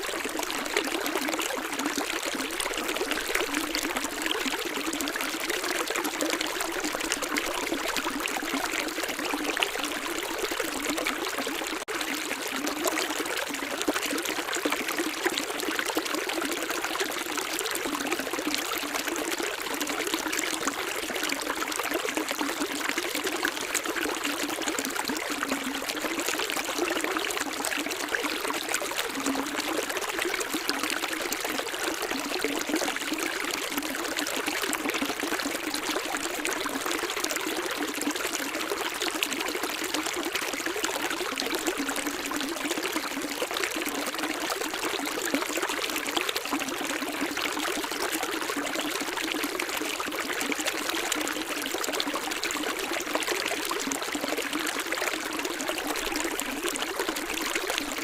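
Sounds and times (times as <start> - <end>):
stream trickling and splashing: 0.0 - 58.0.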